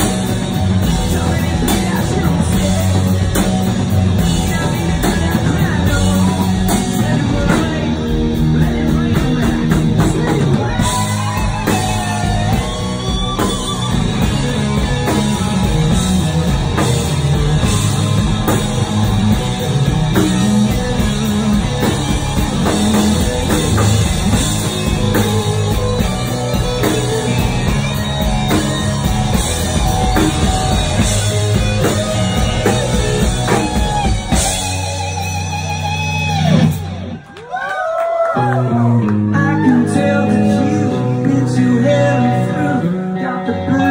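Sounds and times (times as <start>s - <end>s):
loud hard rock band: 0.0s - 43.9s.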